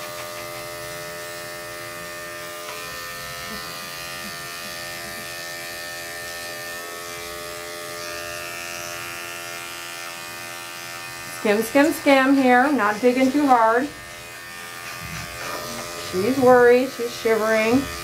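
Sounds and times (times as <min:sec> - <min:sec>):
electric clipper buzzing: 0:00.0 - 0:18.0.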